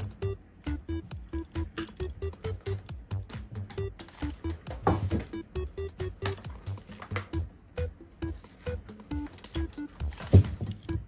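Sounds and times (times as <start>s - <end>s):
music with plucked notes: 0.0s - 11.0s.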